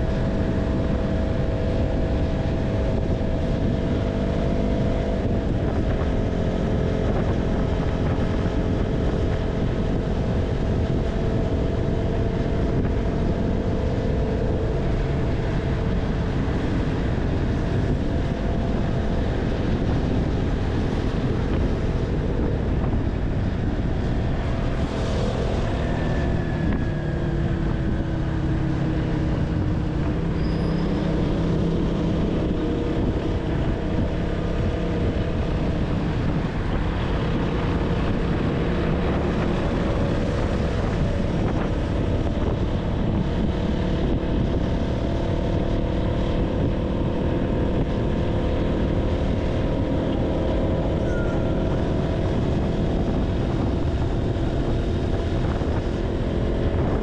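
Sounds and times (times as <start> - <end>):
motorcycle engine running: 0.0 - 57.0
road noise rushing: 0.0 - 57.0.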